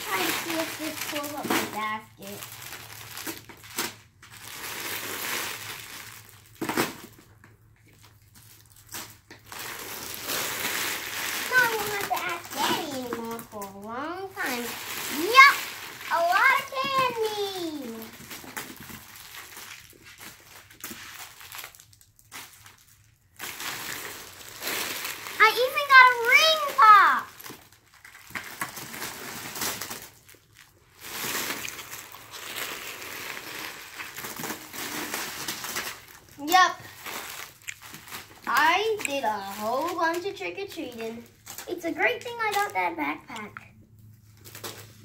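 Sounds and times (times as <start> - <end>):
candy wrappers rustling: 0.0 - 45.0
sharp crackles: 0.0 - 45.0.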